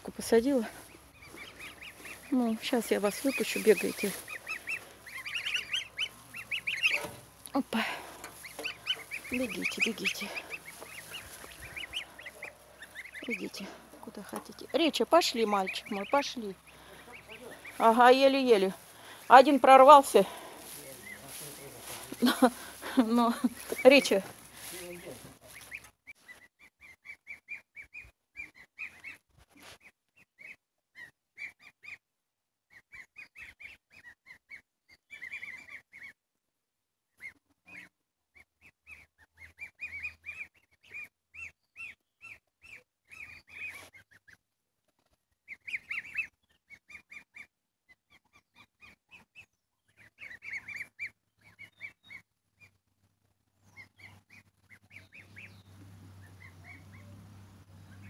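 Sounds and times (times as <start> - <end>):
bird chirping: 0.0 - 32.0, 32.7 - 36.2, 37.1 - 44.4, 45.4 - 52.8, 53.5 - 58.0.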